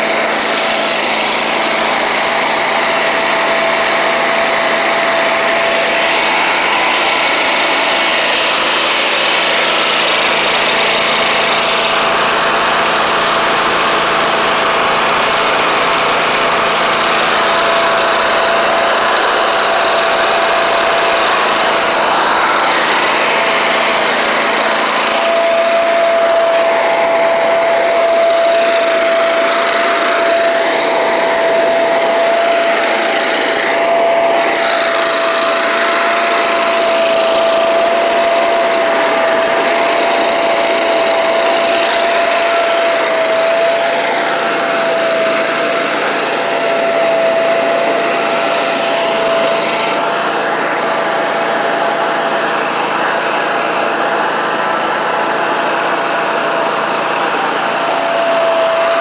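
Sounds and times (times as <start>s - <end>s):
constant high whine: 0.0s - 59.0s
welder generator engine running: 0.0s - 59.0s.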